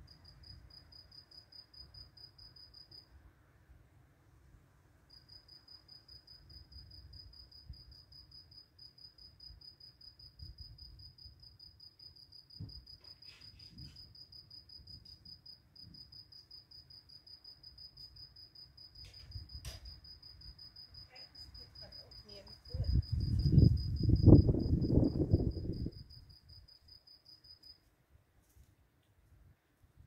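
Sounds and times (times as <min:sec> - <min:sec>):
cricket chirping: 0:00.0 - 0:03.2, 0:05.1 - 0:27.9.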